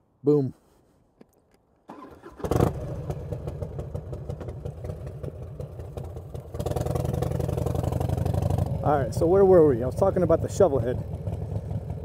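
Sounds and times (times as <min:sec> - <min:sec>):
motorcycle engine starting and running: 0:01.9 - 0:12.0.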